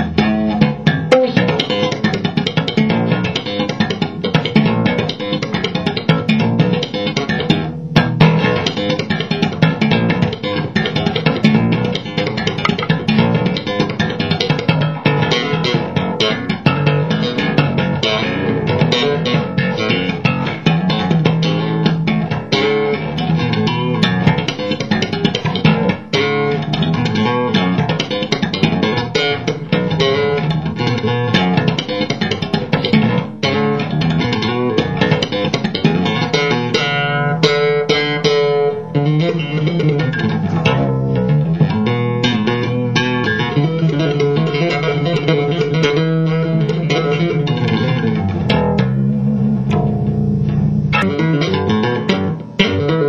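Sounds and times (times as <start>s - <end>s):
slapped electric bass guitar: 0.0s - 53.0s.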